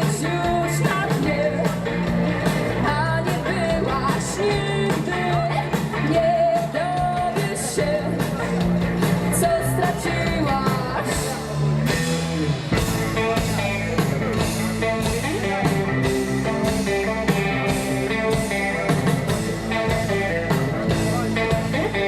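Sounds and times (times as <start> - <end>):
bass guitar: 0.0 - 22.0
drum kit beat: 0.0 - 22.0
electric guitar: 0.0 - 22.0.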